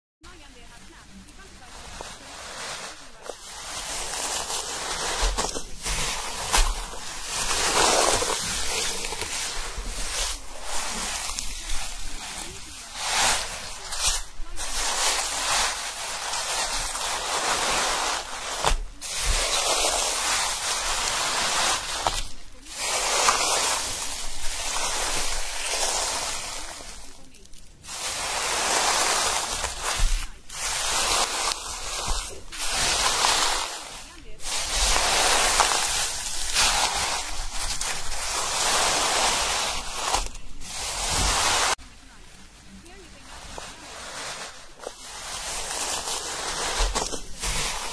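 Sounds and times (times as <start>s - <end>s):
steady rushing hiss: 0.3s - 47.9s.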